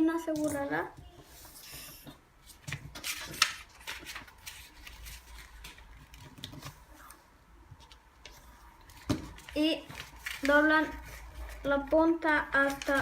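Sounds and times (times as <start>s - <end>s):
paper being folded and creased: 1.8s - 7.2s, 7.8s - 13.0s.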